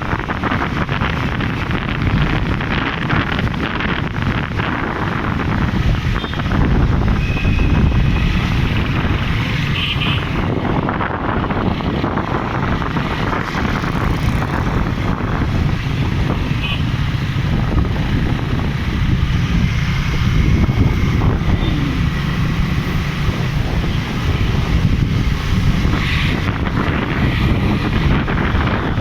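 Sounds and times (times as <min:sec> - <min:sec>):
vehicle rumbling on road: 0:00.0 - 0:29.0
wind buffeting microphone: 0:00.0 - 0:29.0.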